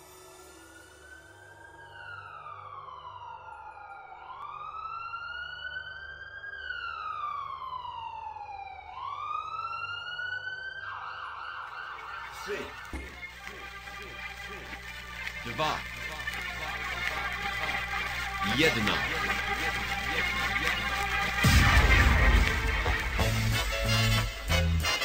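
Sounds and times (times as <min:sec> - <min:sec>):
wailing siren: 0:00.8 - 0:25.0.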